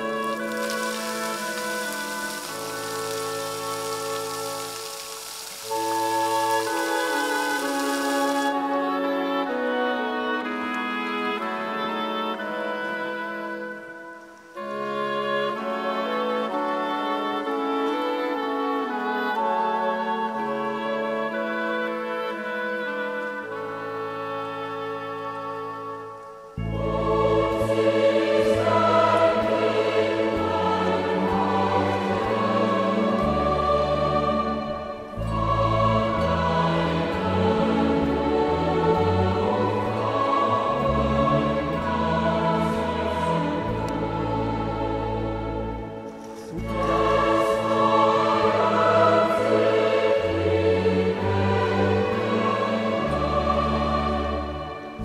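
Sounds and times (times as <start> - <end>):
choir singing held chords: 0.0 - 22.8, 23.4 - 55.0.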